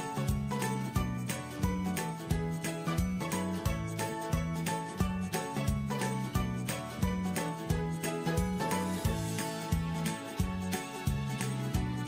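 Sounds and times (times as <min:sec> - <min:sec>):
moving bass line: 0:00.0 - 0:12.0
upbeat music with steady beat: 0:00.0 - 0:12.0.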